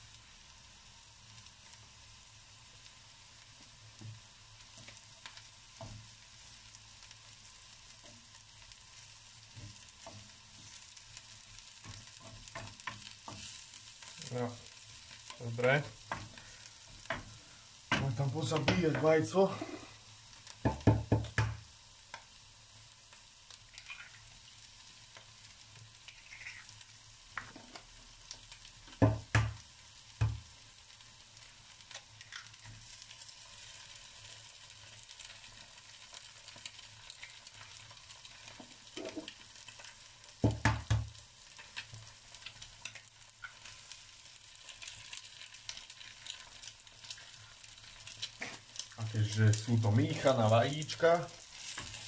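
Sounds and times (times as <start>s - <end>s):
vegetables sizzling in a frying pan: 0.0s - 52.0s.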